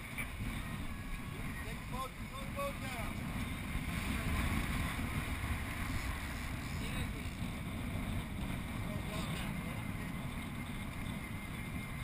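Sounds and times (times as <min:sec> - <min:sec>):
water rushing past boat: 0:00.0 - 0:11.9
outboard motors droning: 0:00.0 - 0:12.0
wind buffeting microphone: 0:00.0 - 0:12.0.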